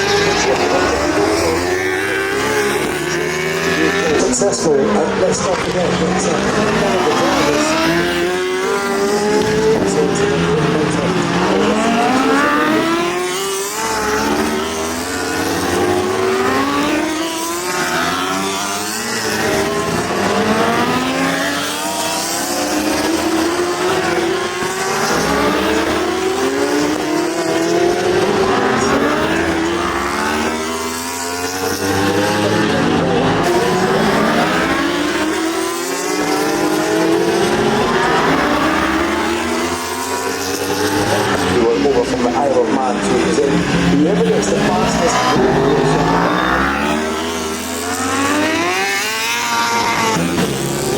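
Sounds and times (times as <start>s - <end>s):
racing motorcycle engines revving: 0.0s - 50.9s.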